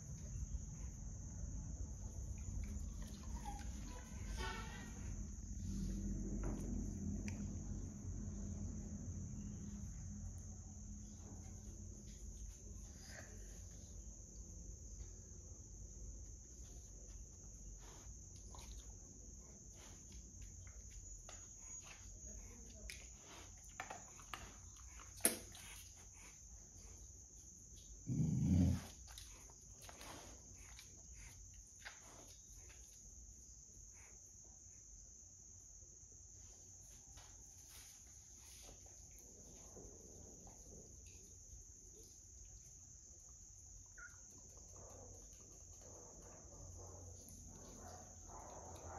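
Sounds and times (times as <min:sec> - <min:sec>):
crickets chirring: 0:00.0 - 0:48.9.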